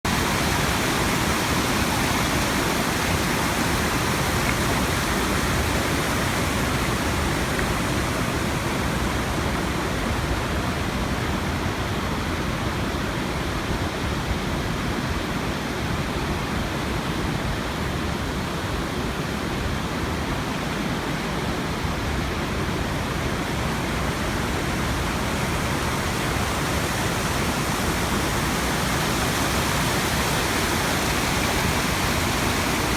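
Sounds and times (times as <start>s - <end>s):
waterfall rushing into pool: 0.0s - 32.9s.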